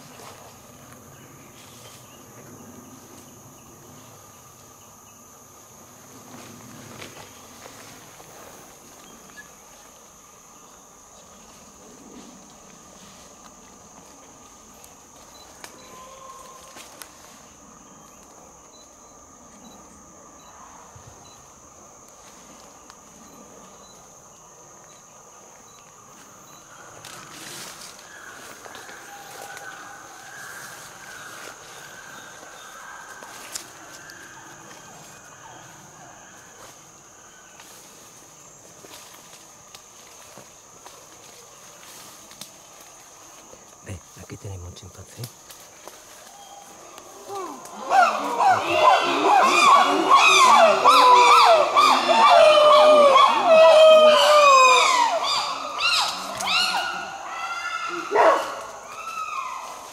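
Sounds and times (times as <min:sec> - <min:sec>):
insects chirring: 0:00.0 - 0:59.9
rustle: 0:00.0 - 0:59.9.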